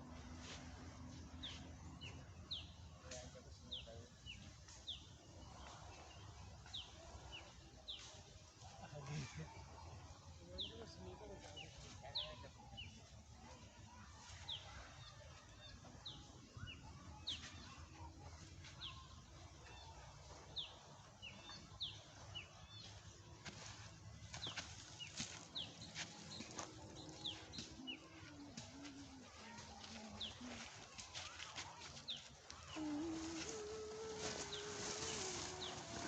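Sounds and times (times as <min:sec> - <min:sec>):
faint bird chirping: 0:00.1 - 0:36.0.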